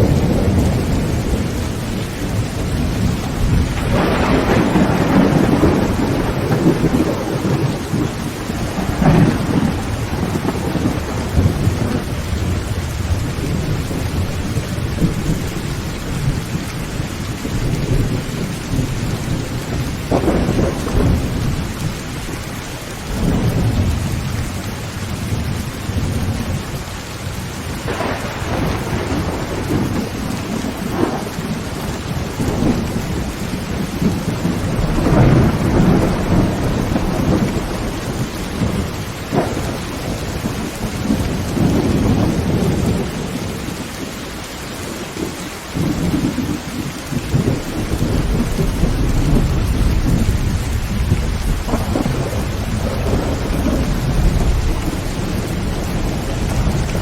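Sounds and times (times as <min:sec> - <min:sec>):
thunder claps: 0:00.0 - 0:44.1, 0:44.8 - 0:57.0
heavy rain on a tin roof: 0:00.0 - 0:57.0
thunder rumbling: 0:00.0 - 0:57.0.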